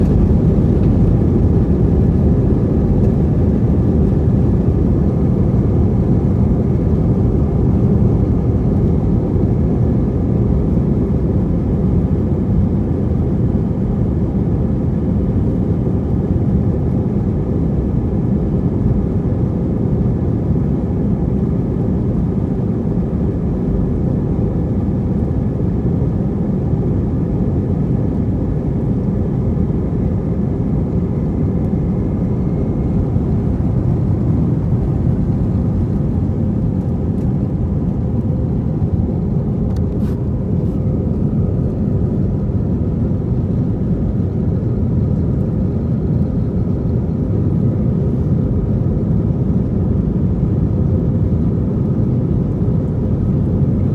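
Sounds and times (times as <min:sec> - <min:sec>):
plane engines roaring in cabin: 0:00.0 - 0:53.9.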